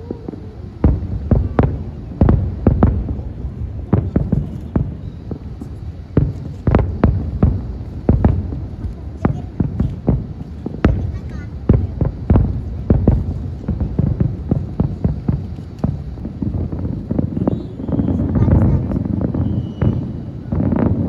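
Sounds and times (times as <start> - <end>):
fireworks booming: 0.0 - 21.0.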